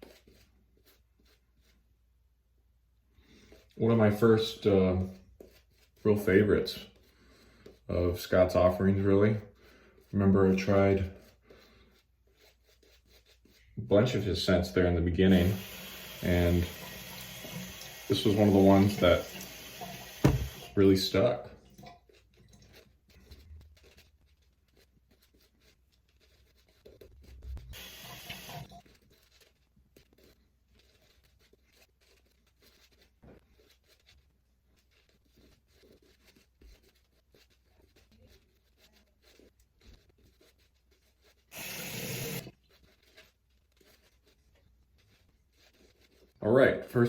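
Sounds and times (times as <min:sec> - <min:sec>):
shaving brush scratching lather: 0:00.0 - 0:02.0, 0:03.2 - 0:47.0.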